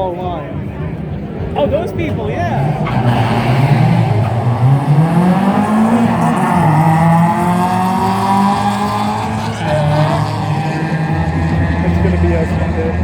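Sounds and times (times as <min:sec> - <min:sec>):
racing car engines revving: 0:01.2 - 0:13.0.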